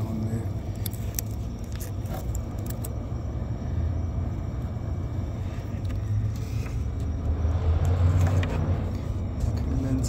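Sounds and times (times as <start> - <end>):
refrigeration machinery humming: 0.0 - 10.0.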